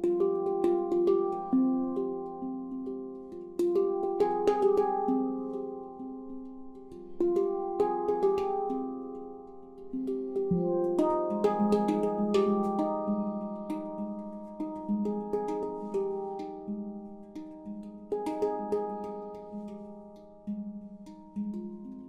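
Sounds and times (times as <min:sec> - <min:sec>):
handpan notes played by hand: 0:00.0 - 0:22.0.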